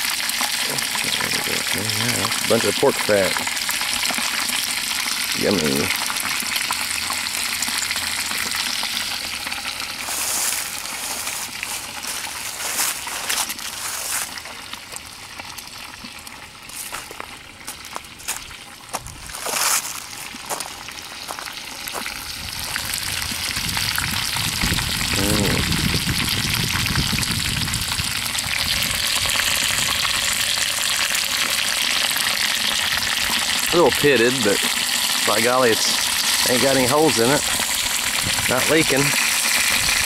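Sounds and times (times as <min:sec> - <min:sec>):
fat sizzling: 0:00.0 - 0:40.0.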